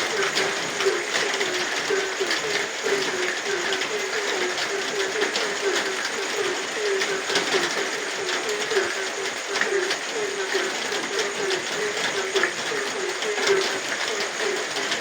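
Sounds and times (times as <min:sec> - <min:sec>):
frogs croaking: 0:00.0 - 0:15.0
high-pitched frog chorus: 0:00.0 - 0:15.0
steady rain: 0:00.0 - 0:15.0.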